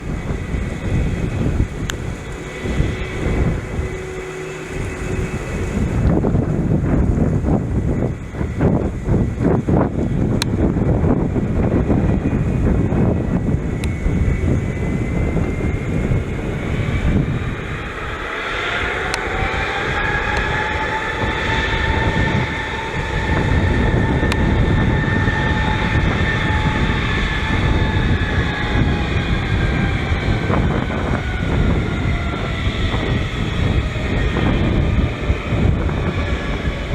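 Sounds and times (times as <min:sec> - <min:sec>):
jet engines whining: 0:00.0 - 0:36.9
low rumble: 0:00.0 - 0:36.9
wind on microphone: 0:00.0 - 0:36.9.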